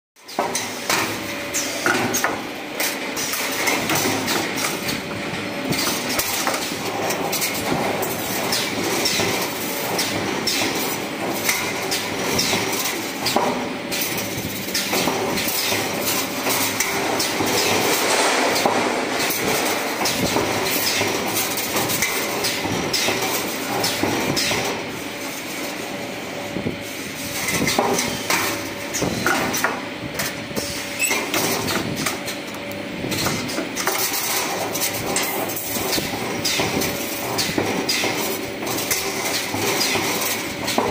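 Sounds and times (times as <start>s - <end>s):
steady mechanical noise: 0.2s - 40.9s
wire bending machine clacking: 0.3s - 24.9s, 31.0s - 40.9s.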